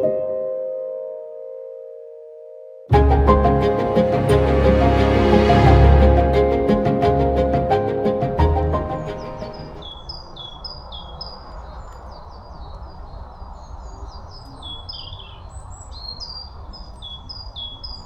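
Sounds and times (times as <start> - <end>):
outdoor background noise: 2.9 - 18.0.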